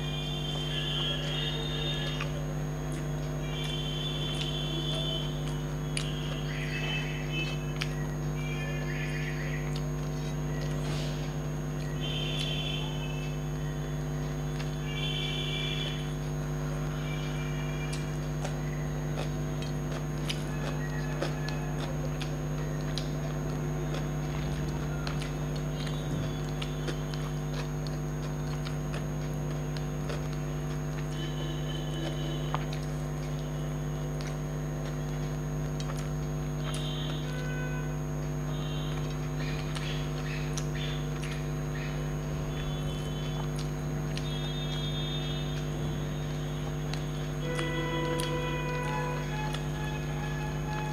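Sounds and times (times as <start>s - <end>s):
chewing: 0.0s - 50.9s
electrical hum: 0.0s - 50.9s.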